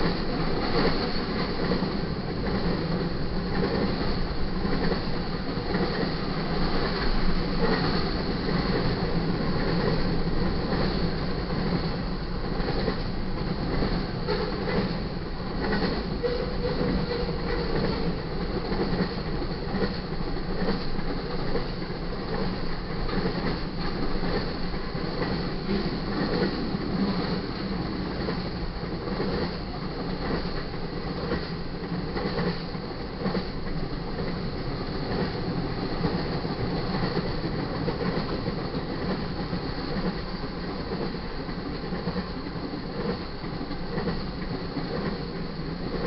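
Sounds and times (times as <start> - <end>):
steel wheels rolling on rail: 0.0 - 46.0.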